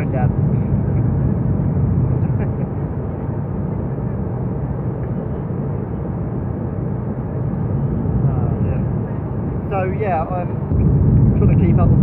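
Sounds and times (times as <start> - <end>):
airliner cabin engine rush: 0.0 - 12.0.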